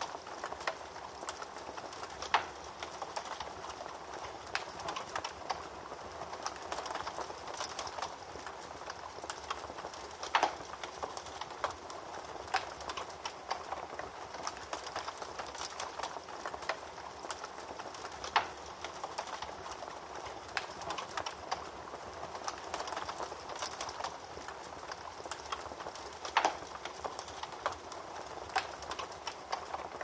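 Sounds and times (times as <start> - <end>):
fire crackling: 0.0 - 30.0
fire flames rushing: 0.0 - 30.0.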